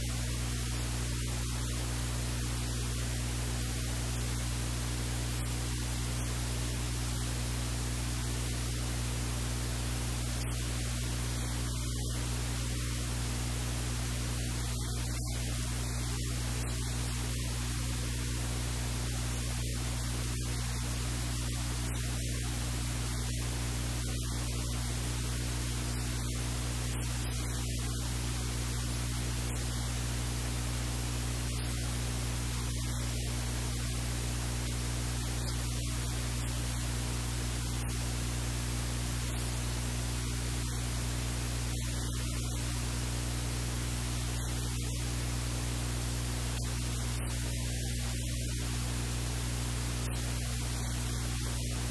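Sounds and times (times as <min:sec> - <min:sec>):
low electrical hum: 0:00.0 - 0:51.9
static hiss: 0:00.0 - 0:51.9.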